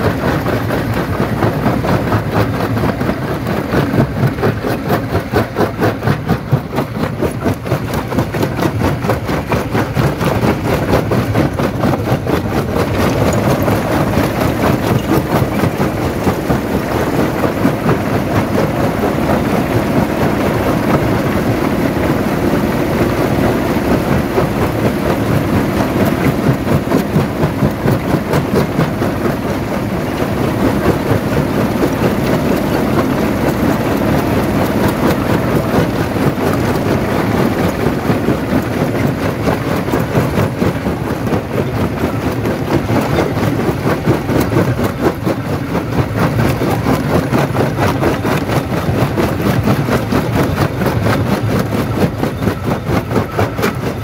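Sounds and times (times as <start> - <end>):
rock crusher rumbling and knocking: 0.0 - 54.0.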